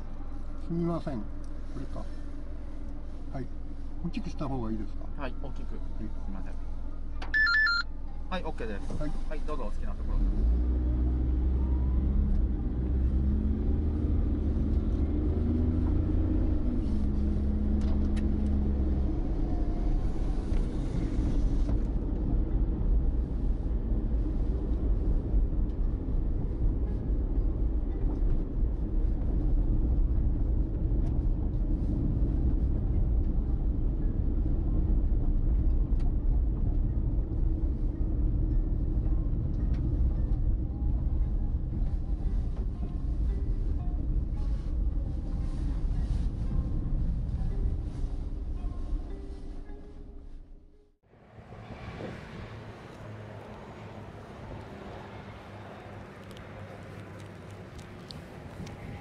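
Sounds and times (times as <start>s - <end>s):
car engine hum: 0.0s - 59.0s
road rumble: 0.0s - 59.0s.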